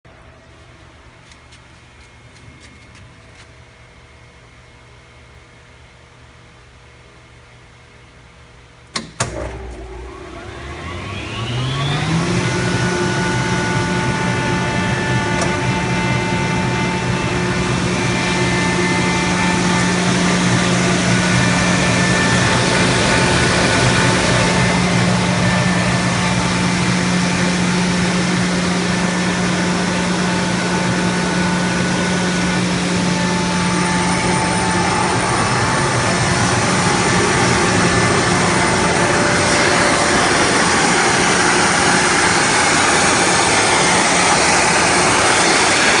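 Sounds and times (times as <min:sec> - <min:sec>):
low hum: 0:08.4 - 0:46.0
air compressor running: 0:09.0 - 0:46.0.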